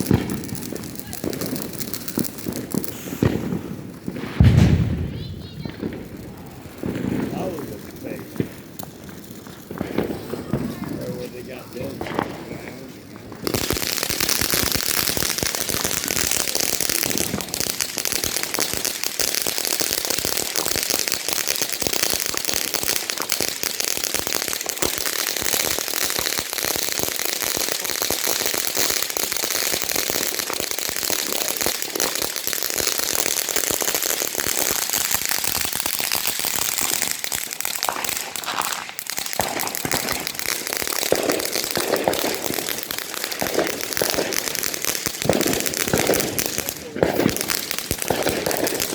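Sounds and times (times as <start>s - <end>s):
fireworks crackling: 0.0s - 48.9s.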